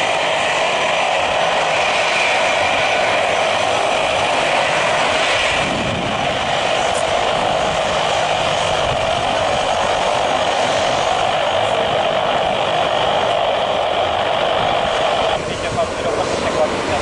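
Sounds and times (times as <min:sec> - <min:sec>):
jet engines idling: 0:00.0 - 0:17.0.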